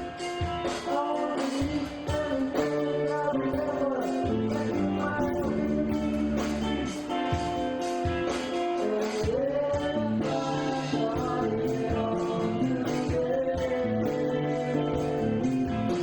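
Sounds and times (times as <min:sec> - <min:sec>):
person singing: 0:00.0 - 0:16.0
rock band playing live: 0:00.0 - 0:16.0.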